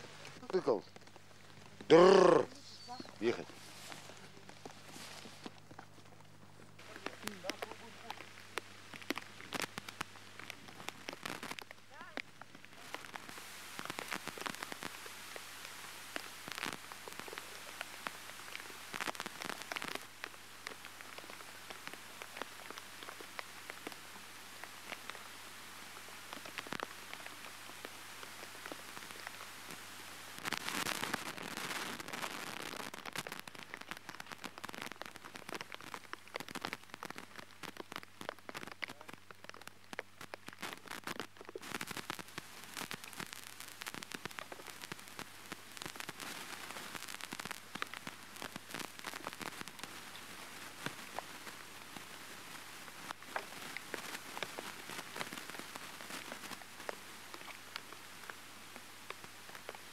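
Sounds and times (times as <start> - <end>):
rain on water and wood: 0.0 - 59.9.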